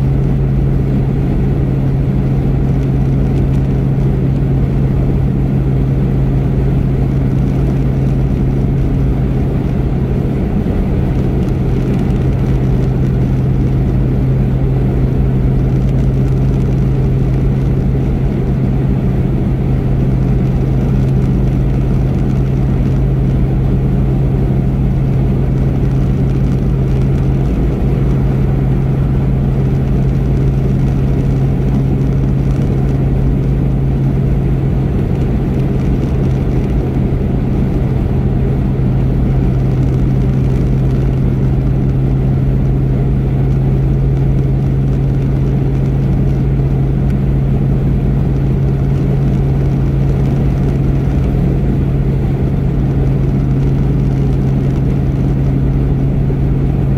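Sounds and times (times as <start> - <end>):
car engine hum: 0.0 - 56.9
road and tyre rumble: 0.0 - 56.9.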